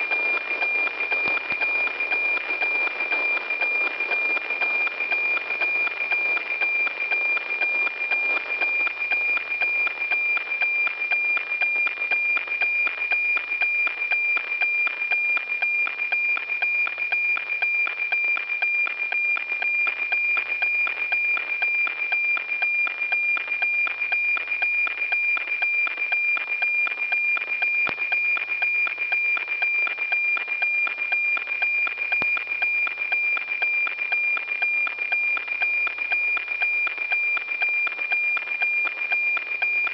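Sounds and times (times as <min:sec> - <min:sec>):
steady high radio tone: 0:00.0 - 0:39.9.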